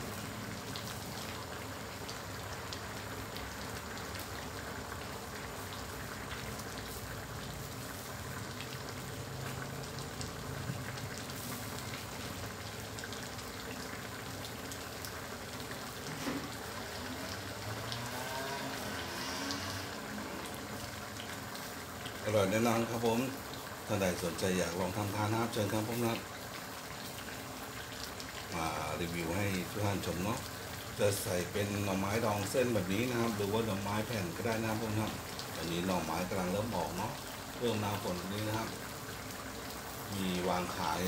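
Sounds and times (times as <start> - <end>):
curry bubbling in a pan: 0.0 - 41.0.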